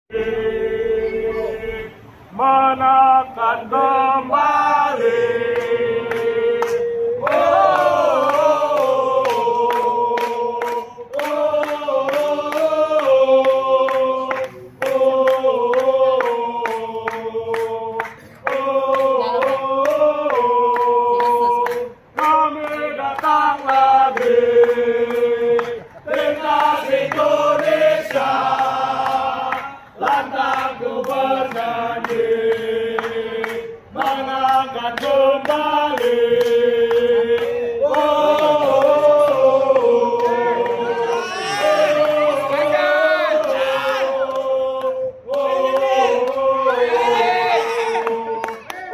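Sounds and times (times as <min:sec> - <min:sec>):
crowd singing a chant: 0:00.1 - 0:48.9.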